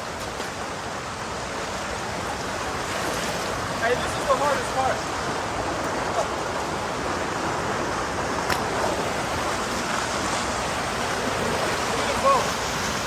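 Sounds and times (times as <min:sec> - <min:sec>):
rushing water roar: 0:00.0 - 0:13.0.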